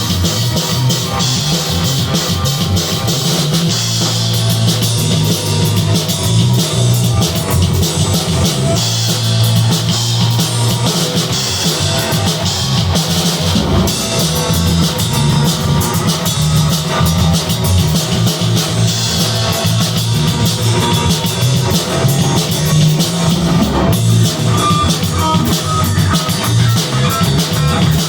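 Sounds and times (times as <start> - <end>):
drum kit with cymbals: 0.0 - 28.0
fretless bass line: 0.0 - 28.0
guitar: 0.0 - 28.0.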